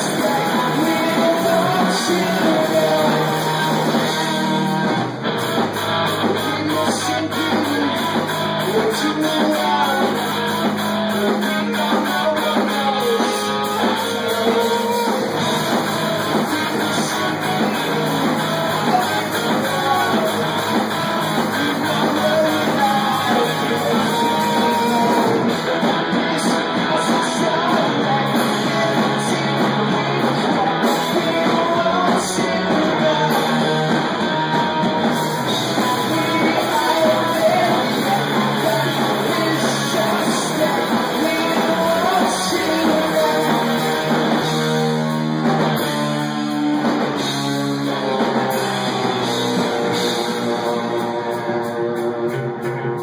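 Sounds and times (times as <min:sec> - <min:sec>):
lead vocal singing: 0:00.0 - 0:46.3
bass guitar: 0:00.0 - 0:53.0
drum kit: 0:00.0 - 0:53.0
electric guitars: 0:00.0 - 0:53.0.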